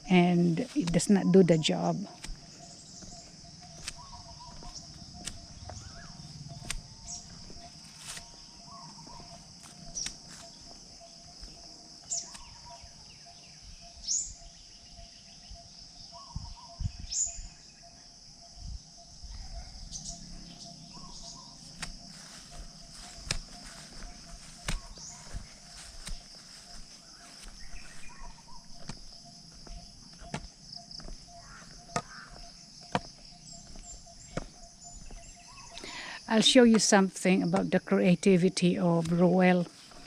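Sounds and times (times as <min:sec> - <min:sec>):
bird chirps and calls: 0:00.0 - 0:17.9, 0:19.2 - 0:37.8
high insect drone: 0:00.0 - 0:40.0.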